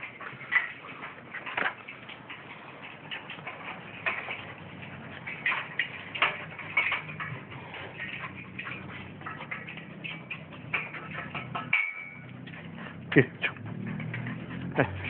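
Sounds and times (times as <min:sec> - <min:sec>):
dog claws tapping on metal ladder: 0:00.0 - 0:15.0.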